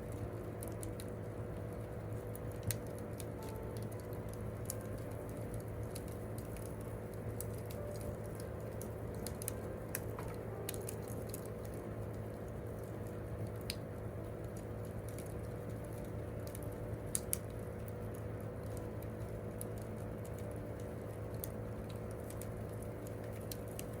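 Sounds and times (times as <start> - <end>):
campfire crackling and popping: 0.0 - 24.0
low steady hum: 0.0 - 24.0.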